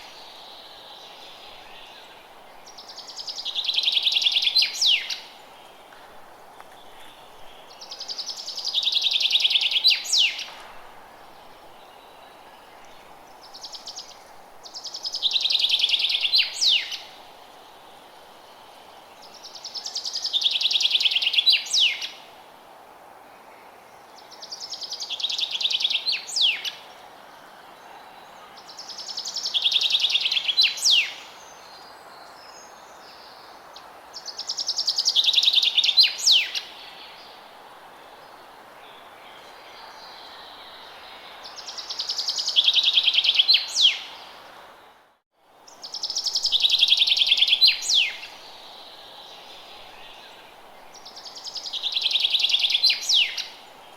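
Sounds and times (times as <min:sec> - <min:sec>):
faint outdoor hiss: 0:00.0 - 0:53.9.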